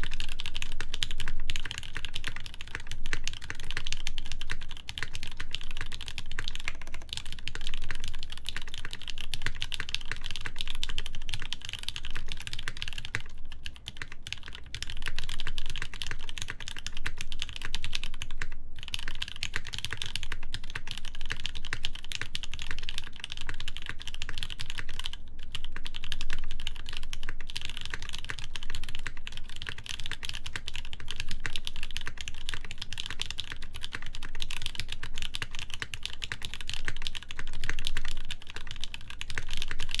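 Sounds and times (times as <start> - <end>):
mechanical keyboard typing: 0.0 - 40.0.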